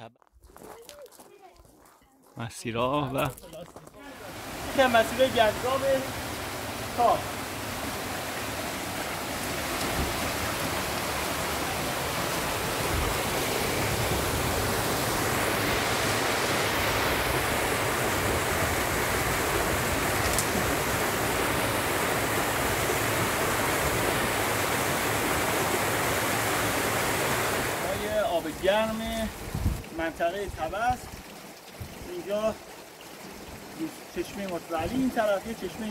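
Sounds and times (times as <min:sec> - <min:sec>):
stream rushing over boulders: 0:02.6 - 0:35.9.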